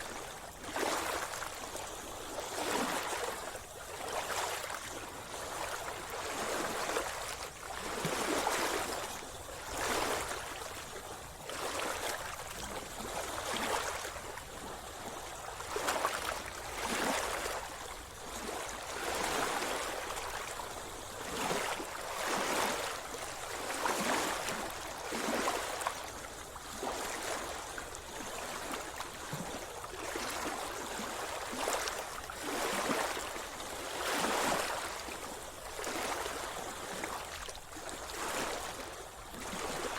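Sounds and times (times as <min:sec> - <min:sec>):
sea water splashing and gurgling: 0:00.0 - 0:39.9.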